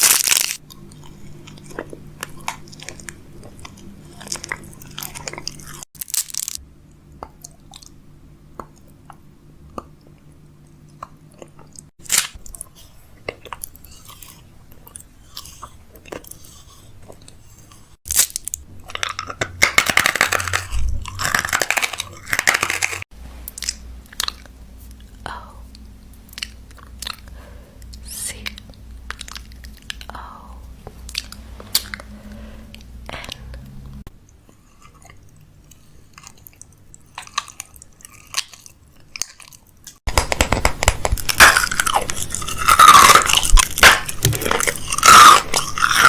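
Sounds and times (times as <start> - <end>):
crunching and chewing crisp food: 0.0 - 30.2, 30.8 - 32.1, 33.1 - 46.0.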